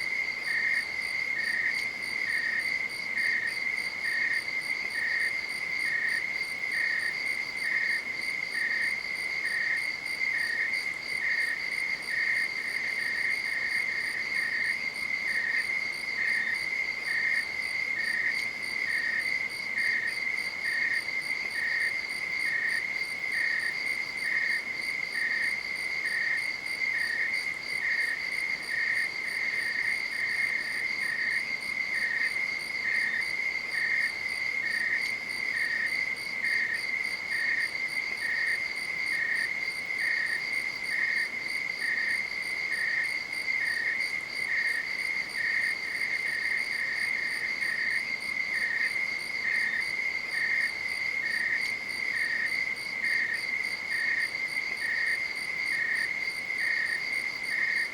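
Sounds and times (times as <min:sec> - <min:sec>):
insect chirping: 0:00.0 - 0:57.9.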